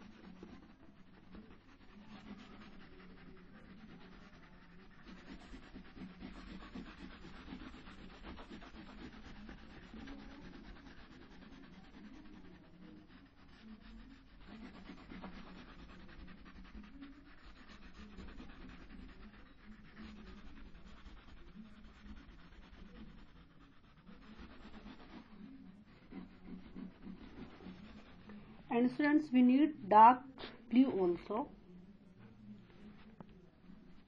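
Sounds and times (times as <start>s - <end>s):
crayon scribbling on paper: 0.0s - 29.8s.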